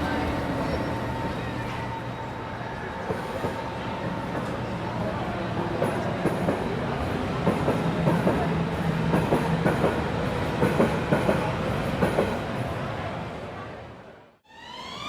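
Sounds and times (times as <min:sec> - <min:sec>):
train rumbling on track: 0:00.0 - 0:13.8.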